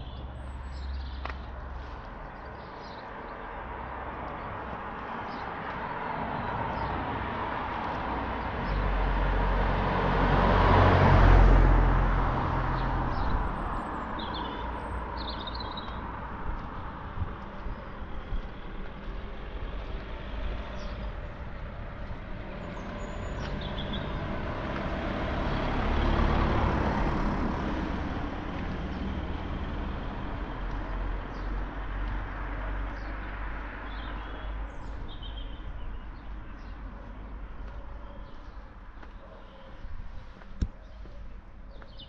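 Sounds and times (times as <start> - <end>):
birds chirping: 0.0 - 9.1, 12.6 - 26.5, 28.2 - 42.0
road vehicle passing: 0.0 - 42.0.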